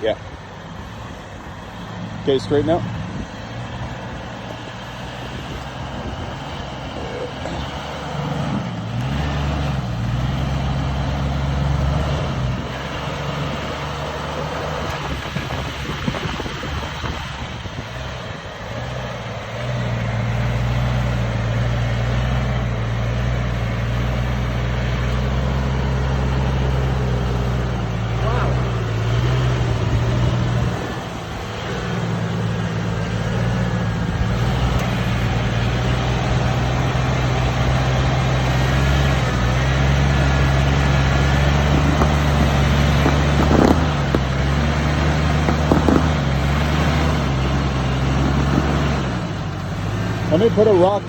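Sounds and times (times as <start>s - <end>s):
vehicle engine revving under load: 0.0s - 51.0s.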